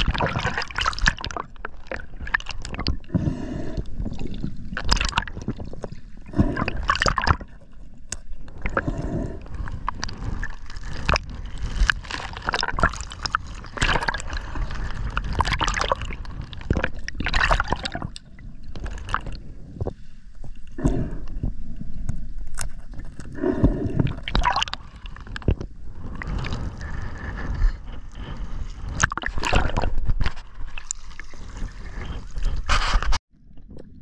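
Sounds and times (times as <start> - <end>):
water sloshing and gurgling: 0.0 - 34.0.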